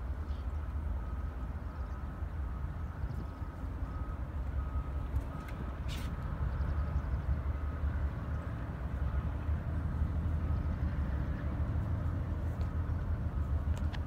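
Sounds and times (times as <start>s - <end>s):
freight train cars rumbling: 0.0s - 14.0s.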